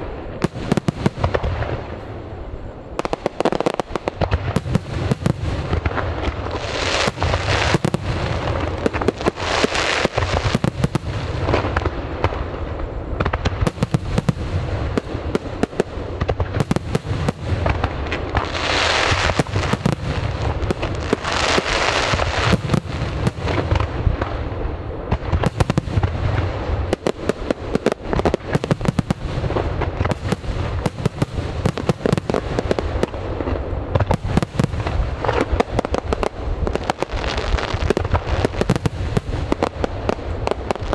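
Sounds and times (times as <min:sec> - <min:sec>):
crackling hiss: 0:00.0 - 0:40.9
fireworks bangs: 0:00.0 - 0:40.9.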